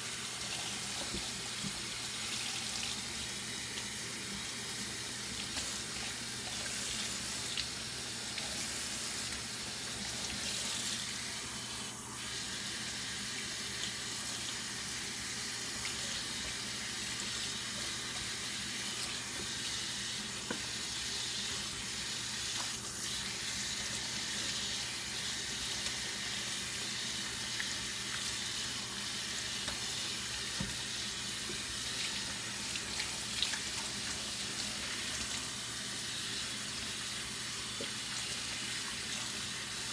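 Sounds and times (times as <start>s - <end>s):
water running from sink tap: 0.0s - 39.9s.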